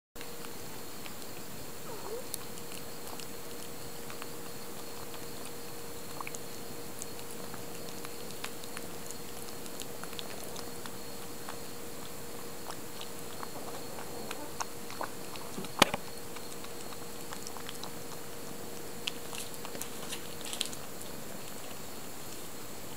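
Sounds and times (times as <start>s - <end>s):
faint steady hum: 0.2s - 22.9s
kitten lapping: 0.2s - 22.9s.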